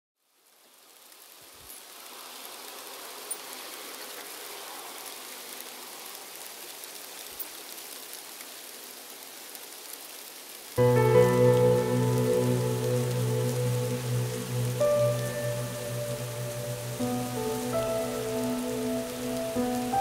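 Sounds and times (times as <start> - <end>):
light rain in forest: 0.2 - 20.0
raindrop ticks: 1.1 - 20.0.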